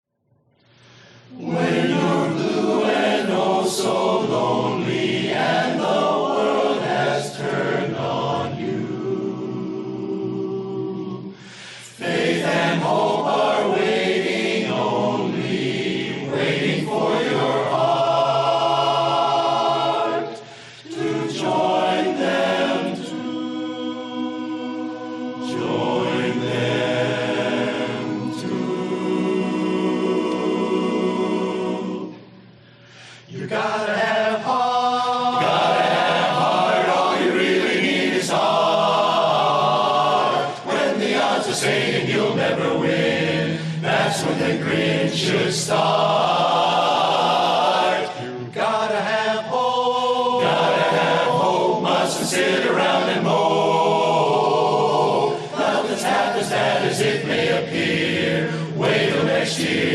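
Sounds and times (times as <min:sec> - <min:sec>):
chorus singing in close harmony: 0:01.3 - 0:32.6, 0:33.2 - 0:59.9.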